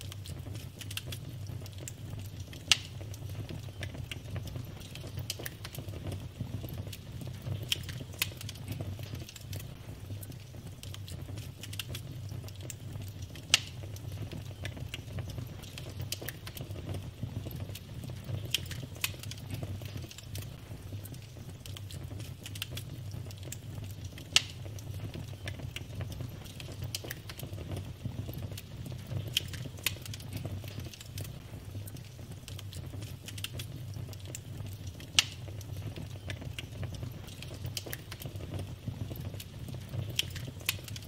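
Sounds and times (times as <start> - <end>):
logs crackling in fireplace: 0.0 - 41.0
loud fire pops: 0.0 - 41.0.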